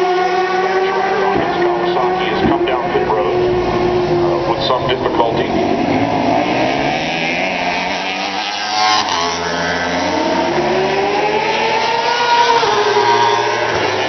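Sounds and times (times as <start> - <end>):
racing motorcycles passing: 0.0 - 14.0.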